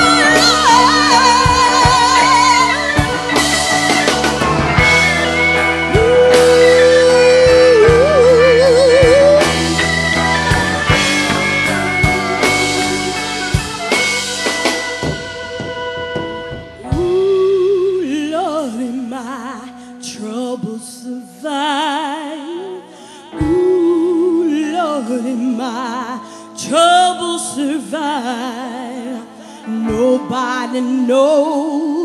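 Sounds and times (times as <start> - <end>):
woman singing gospel: 0.0 - 4.1, 4.9 - 13.6, 16.8 - 32.0
band backing chords: 0.0 - 32.0.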